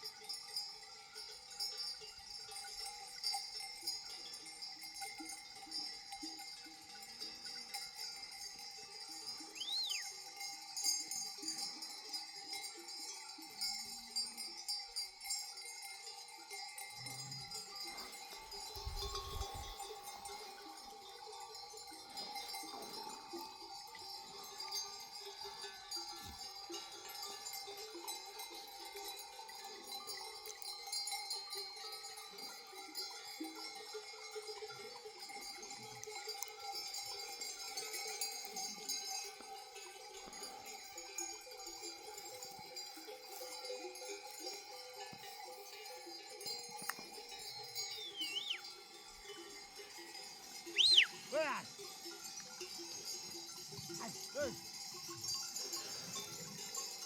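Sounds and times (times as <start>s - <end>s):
sheep bells clinking: 0.0s - 57.0s.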